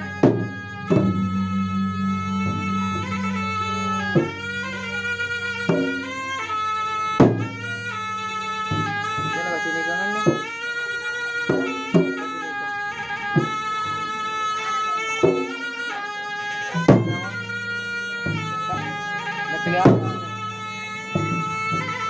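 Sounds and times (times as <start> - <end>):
reedy wind instrument melody: 0.0 - 22.0
sharp drum beats: 0.0 - 22.0.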